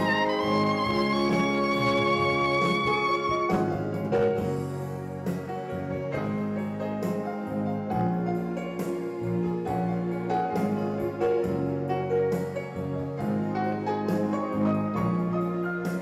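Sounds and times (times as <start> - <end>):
electronic keyboard piano notes: 0.0 - 16.0.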